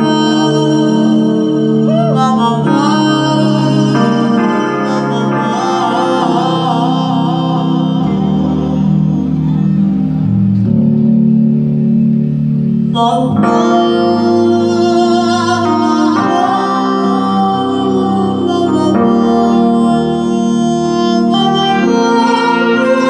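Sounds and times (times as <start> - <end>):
electric bass: 0.0 - 23.0
electric guitar: 0.0 - 23.0
keyboard chords: 0.0 - 23.0
jazz-funk band playing: 3.8 - 23.0.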